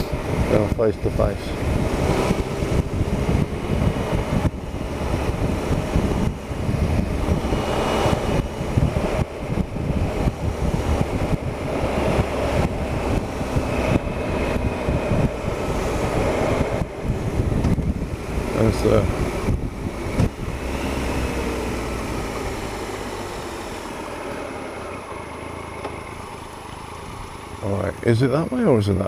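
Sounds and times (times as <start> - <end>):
wind noise on microphone: 0.0 - 24.0
motorcycle engine running: 0.0 - 29.0.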